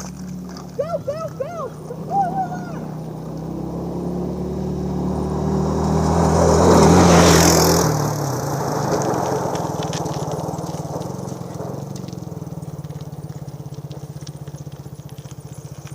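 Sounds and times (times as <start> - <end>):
car driving past: 0.0 - 15.9.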